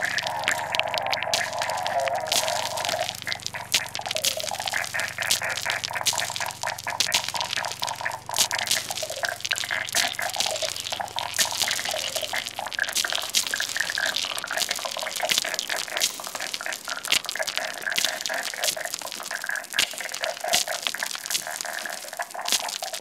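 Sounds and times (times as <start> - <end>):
clicks and crackle: 0.0 - 23.0
steady hiss: 0.0 - 23.0.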